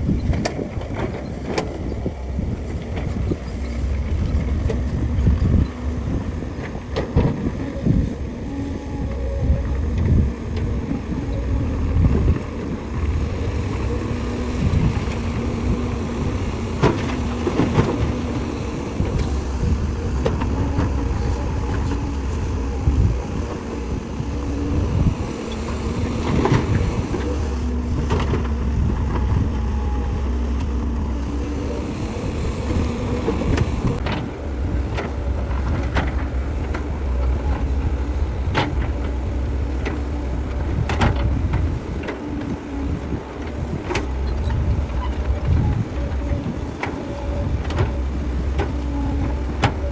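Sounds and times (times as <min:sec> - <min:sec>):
diesel machinery engine rumble: 0:00.0 - 0:49.9.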